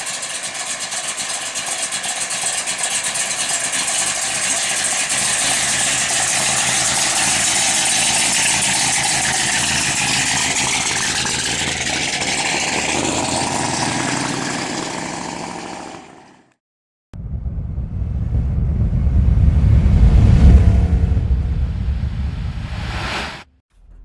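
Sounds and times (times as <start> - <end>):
car engine running: 0.0 - 16.2, 17.2 - 23.4.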